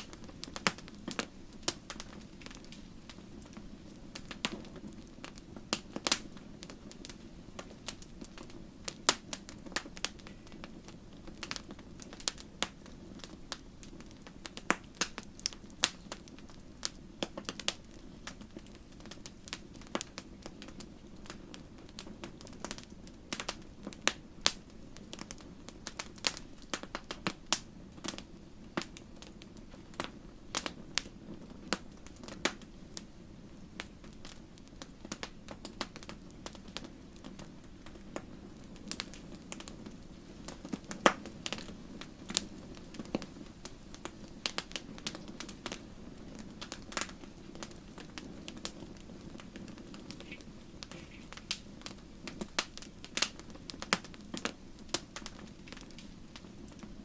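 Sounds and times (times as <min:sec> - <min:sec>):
campfire crackling and popping: 0:00.0 - 0:57.0
low rush of flame: 0:00.0 - 0:57.0.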